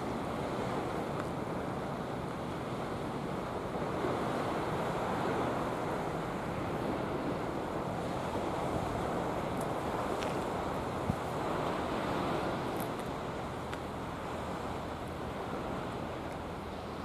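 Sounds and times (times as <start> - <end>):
sea surf on beach: 0.0 - 17.0
wind buffeting microphone: 0.0 - 17.0.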